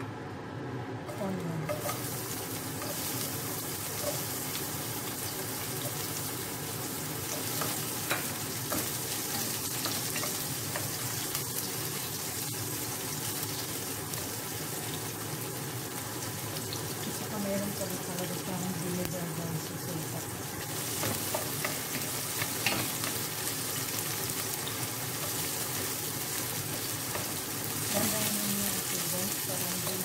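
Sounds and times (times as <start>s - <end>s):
onions sizzling in hot oil: 1.0s - 30.0s.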